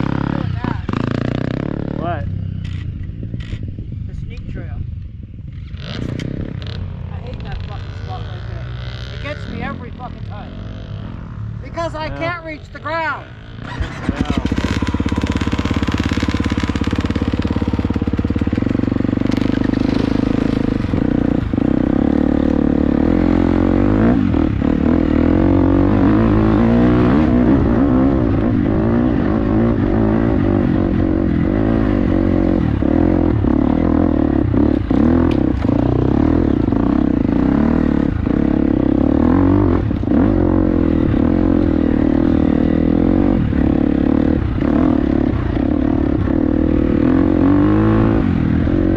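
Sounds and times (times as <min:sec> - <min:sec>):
dirt bike engine revving: 0:00.0 - 0:03.7, 0:05.6 - 0:48.9.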